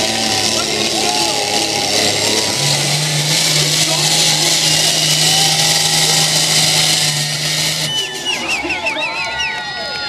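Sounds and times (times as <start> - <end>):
truck engine running flat out: 0.0 - 10.0.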